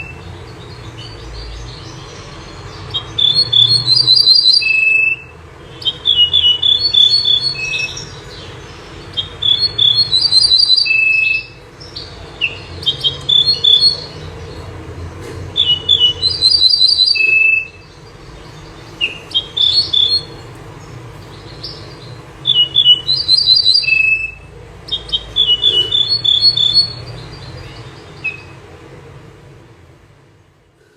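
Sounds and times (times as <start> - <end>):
songbird chirping: 0.0 - 29.0.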